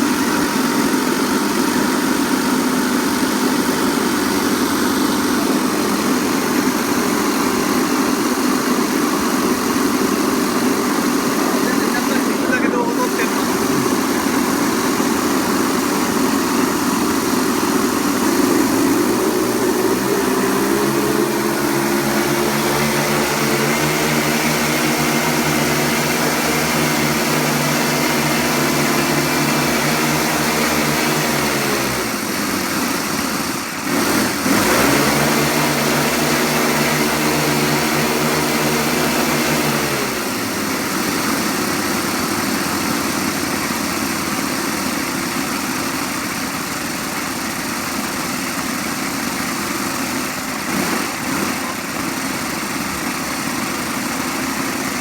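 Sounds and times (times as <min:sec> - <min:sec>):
model aircraft engines running: 0:00.0 - 0:55.0.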